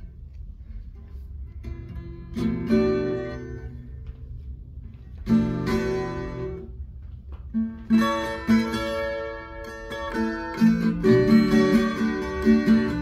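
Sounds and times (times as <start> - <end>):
twelve-string acoustic guitar: 1.0 - 4.2, 5.1 - 6.8, 7.5 - 13.0.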